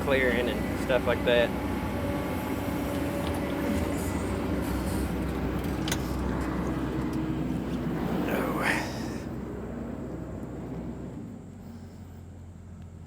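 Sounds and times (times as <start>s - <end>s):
excavator engine and hydraulics humming: 0.0s - 13.0s
faint whine: 0.0s - 13.0s.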